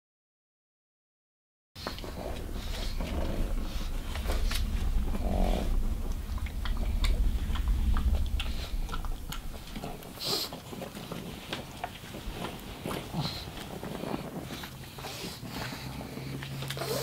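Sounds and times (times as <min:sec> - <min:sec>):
low rumble: 0:01.8 - 0:16.7
dogs snuffling: 0:01.8 - 0:17.0.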